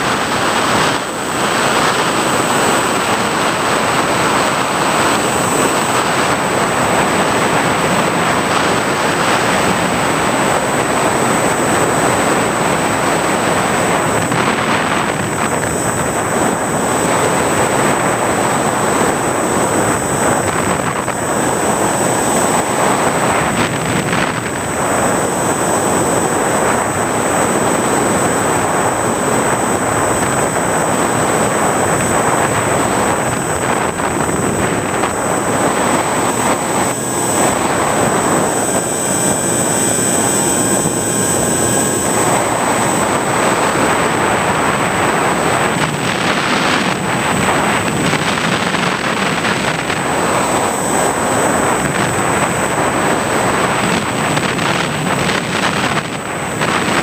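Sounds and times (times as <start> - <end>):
high whine: 0.0 - 57.0
motor and propeller noise: 0.0 - 57.0
wind rushing: 0.0 - 57.0.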